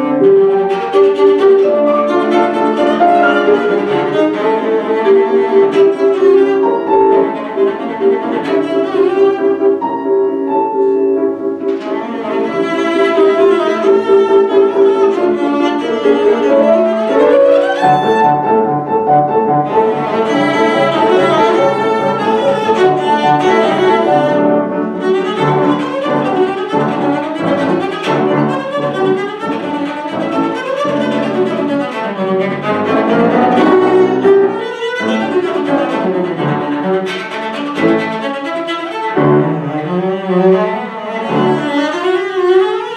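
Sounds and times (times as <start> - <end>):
bowed string instrument: 0.0 - 42.9
piano accompaniment: 0.0 - 42.9.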